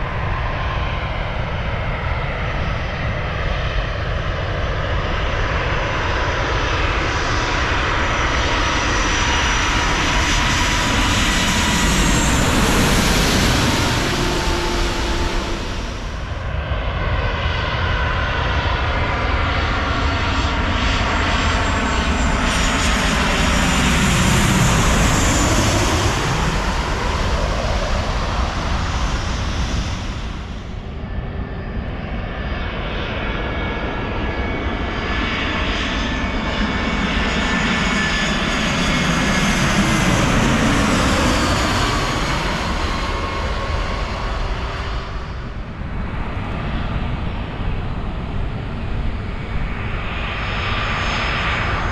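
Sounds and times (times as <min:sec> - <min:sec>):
jet airliner passing overhead: 0:00.0 - 0:51.9.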